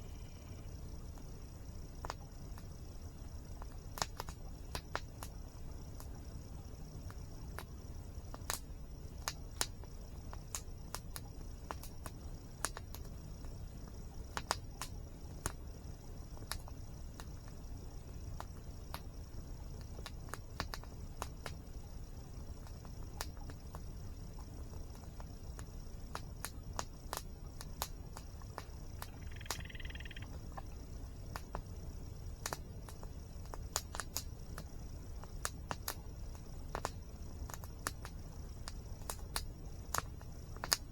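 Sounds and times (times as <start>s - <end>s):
insect trill: 0.0s - 40.9s
campfire crackling and popping: 0.8s - 40.9s.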